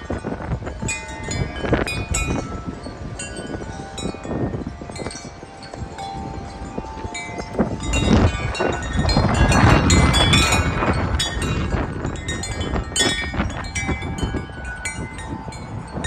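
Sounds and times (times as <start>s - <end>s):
wind buffeting microphone: 0.0s - 16.0s
wind chimes ringing: 0.0s - 16.0s.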